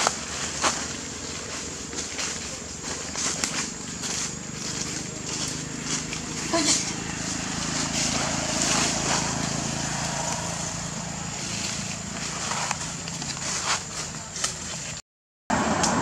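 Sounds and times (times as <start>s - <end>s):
low motor hum: 0.0s - 14.7s.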